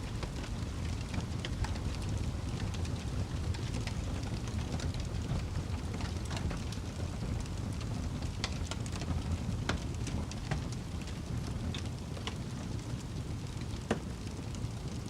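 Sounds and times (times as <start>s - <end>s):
burning wood crackling: 0.0s - 15.0s
fire flames rumbling: 0.0s - 15.0s.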